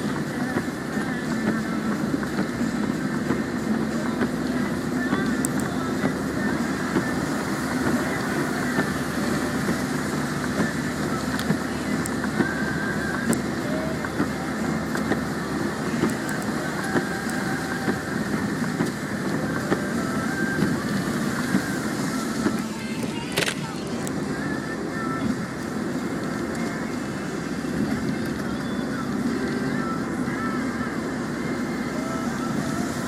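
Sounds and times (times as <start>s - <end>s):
tyre and rain noise: 0.0s - 33.0s.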